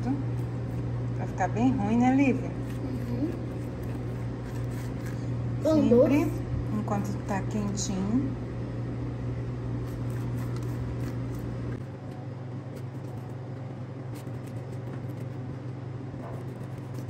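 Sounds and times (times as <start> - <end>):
kitchen machinery hum: 0.0 - 17.0.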